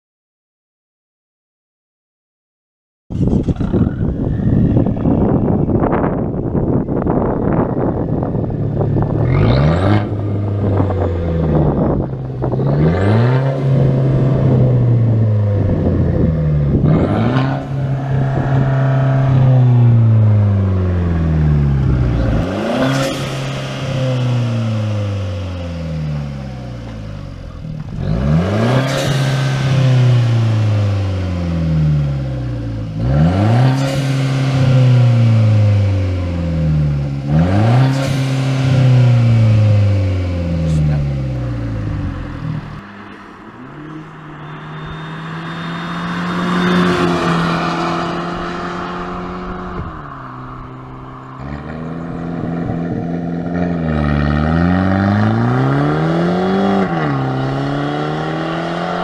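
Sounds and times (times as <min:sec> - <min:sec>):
car engine revving: 0:03.1 - 0:59.0.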